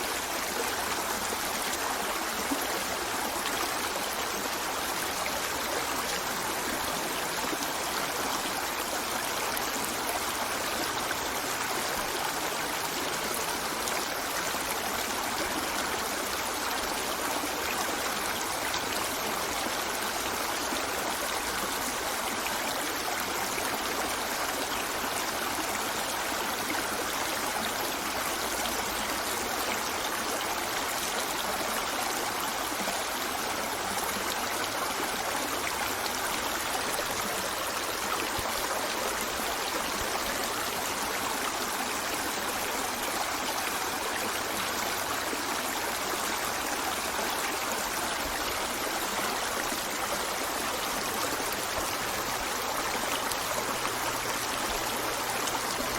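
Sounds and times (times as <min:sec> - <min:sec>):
river flowing over rocks: 0:00.0 - 0:55.9.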